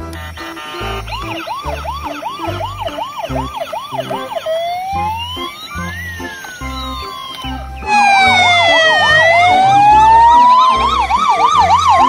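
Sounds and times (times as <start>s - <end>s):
ambulance siren warble: 0.0s - 12.0s
background music beat: 0.0s - 12.0s
ambulance siren wail: 0.3s - 12.0s.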